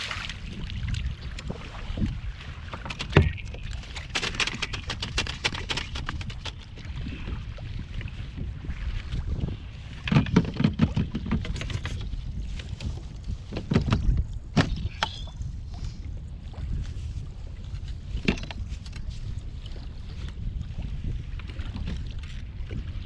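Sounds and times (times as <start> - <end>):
wind rumbling on microphone: 0.0 - 23.0
knocks and clatters on kayak hull: 0.6 - 15.8, 17.7 - 23.0.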